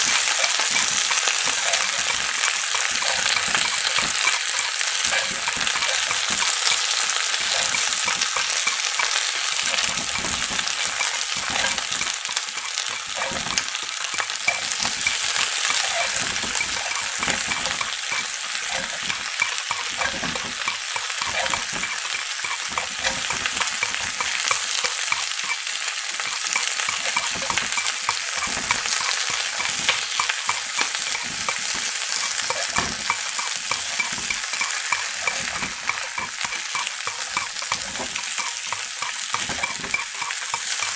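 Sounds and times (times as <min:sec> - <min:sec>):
chicken frying in hot oil: 0:00.0 - 0:40.9.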